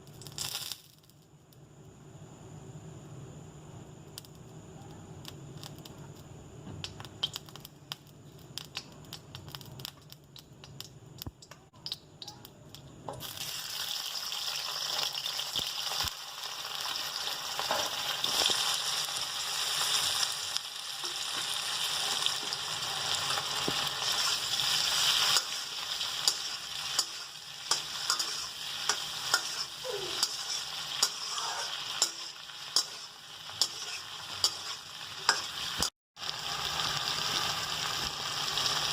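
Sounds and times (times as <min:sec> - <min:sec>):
food sizzling in hot oil: 0:00.0 - 0:01.2, 0:05.2 - 0:38.9.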